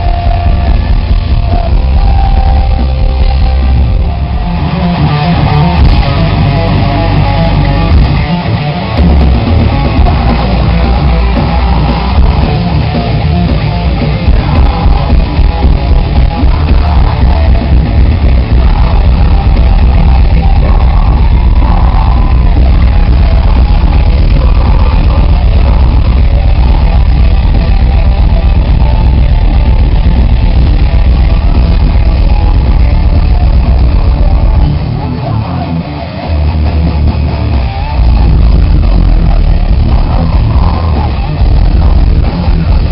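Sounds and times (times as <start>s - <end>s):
metal band playing live: 0.0s - 42.9s.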